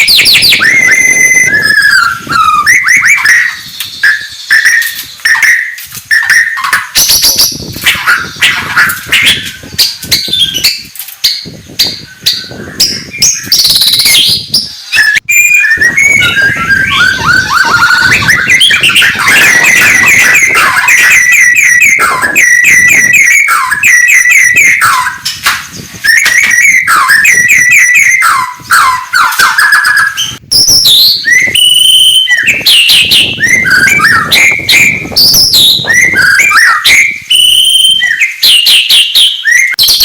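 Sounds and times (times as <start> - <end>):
bird singing whistles and clicks: 0.0 - 40.0.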